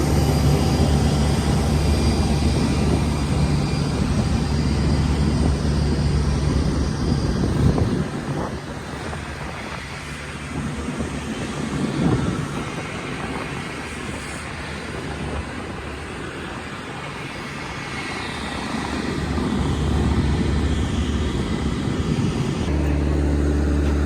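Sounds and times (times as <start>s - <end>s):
airliner rumble with hiss: 0.0s - 24.0s.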